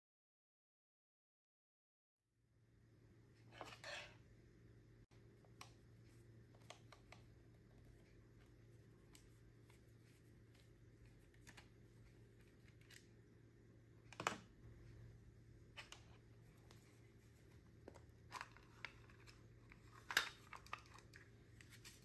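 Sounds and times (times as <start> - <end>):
low steady hum: 2.5 - 22.0.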